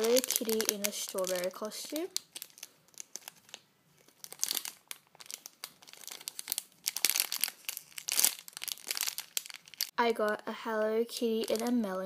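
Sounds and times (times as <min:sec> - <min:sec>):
plastic bag crinkling: 0:00.0 - 0:10.4, 0:11.1 - 0:12.0.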